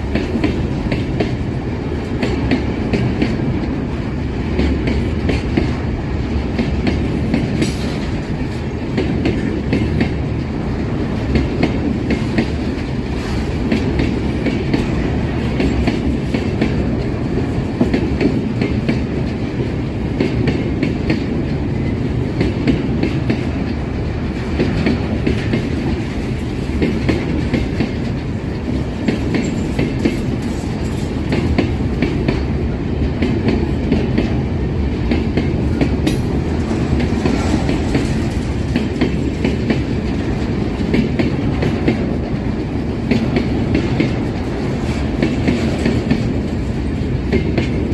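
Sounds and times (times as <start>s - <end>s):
train rumble: 0.0s - 47.9s
train wheels clattering over rail joints: 0.0s - 47.9s.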